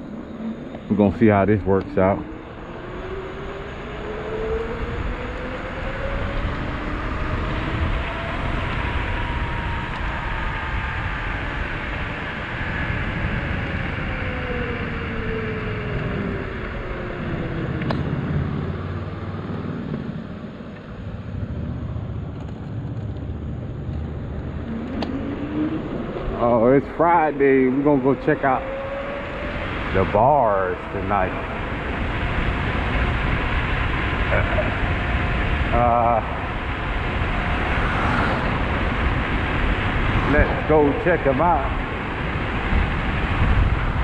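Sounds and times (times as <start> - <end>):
electric bike motor whine: 0.0 - 44.0
road and wind noise: 0.0 - 44.0.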